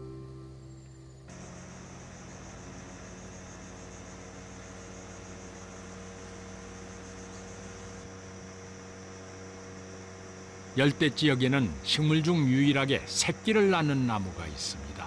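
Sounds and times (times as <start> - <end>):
boat engine humming: 0.0 - 15.0
insects droning: 0.0 - 15.0.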